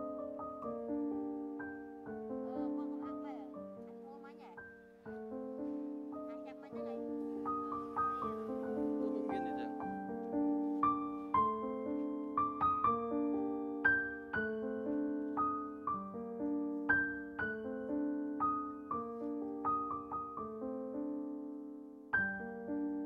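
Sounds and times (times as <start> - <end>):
soft piano melody: 0.0 - 23.0.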